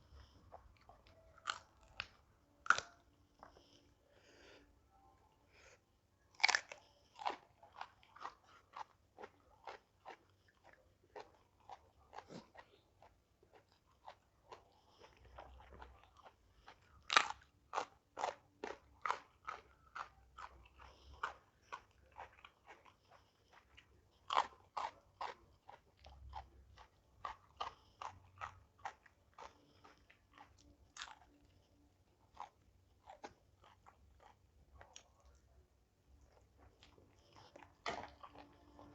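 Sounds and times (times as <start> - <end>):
crunchy chewing: 0.0 - 4.3, 5.6 - 38.9.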